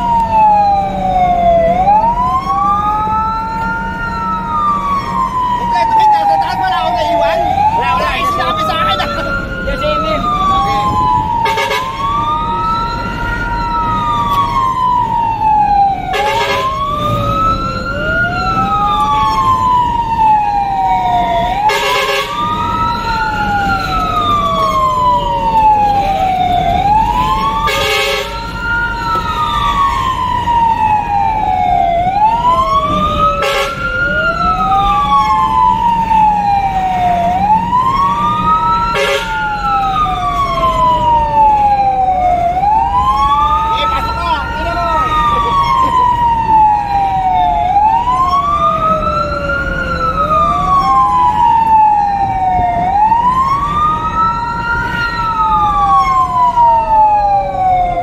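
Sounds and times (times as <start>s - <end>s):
fire engine siren wailing: 0.0s - 58.0s
truck engine rumbling: 0.0s - 58.0s.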